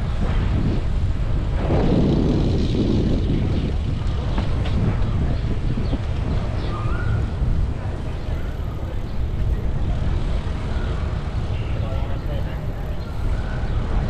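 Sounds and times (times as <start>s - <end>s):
tyres humming on road: 0.0s - 14.0s
wind rumbling on microphone: 0.0s - 14.0s.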